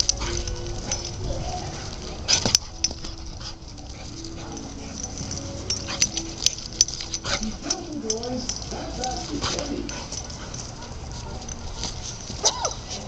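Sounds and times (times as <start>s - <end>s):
dog whining: 0.0s - 7.9s, 9.3s - 13.0s.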